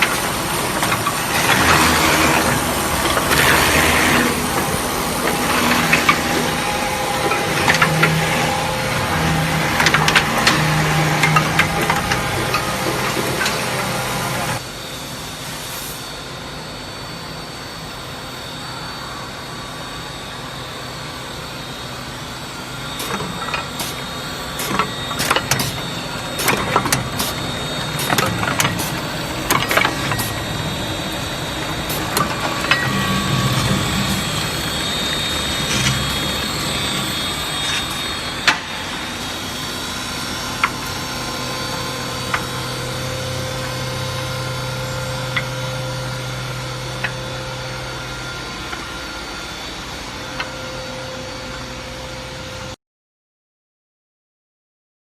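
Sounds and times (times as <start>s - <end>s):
woodworking machine humming: 0.0s - 14.6s, 18.8s - 52.7s.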